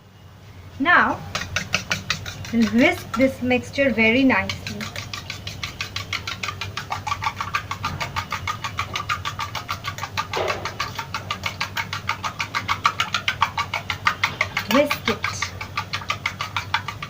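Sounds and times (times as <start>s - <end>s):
whisk clicking against bowl: 1.0s - 17.0s.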